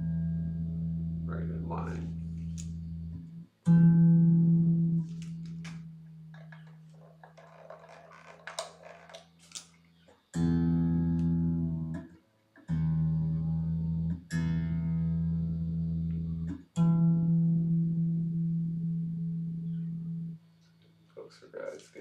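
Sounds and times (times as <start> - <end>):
electric guitar string plucked: 0.0 - 20.4.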